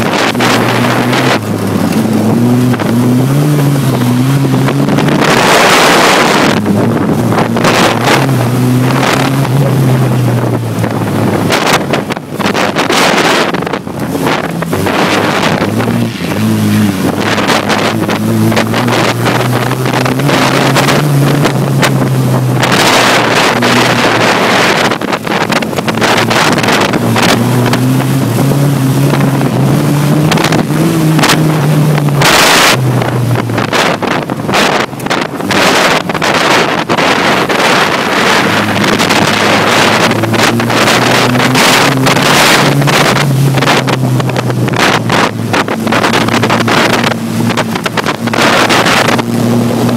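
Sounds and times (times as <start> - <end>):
race car engine revving: 0.0 - 49.9
wind buffeting microphone: 0.0 - 49.9.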